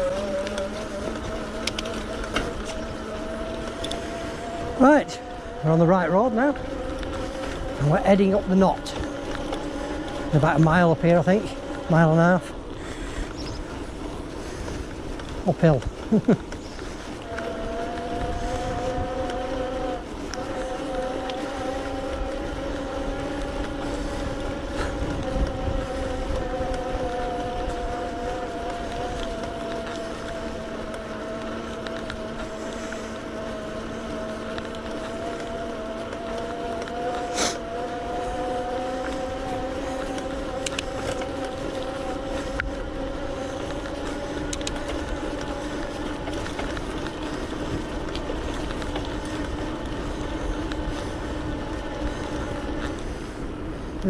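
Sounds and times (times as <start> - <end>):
electric bike motor whining: 0.0 - 54.0
wind rumble on microphone: 0.0 - 54.0.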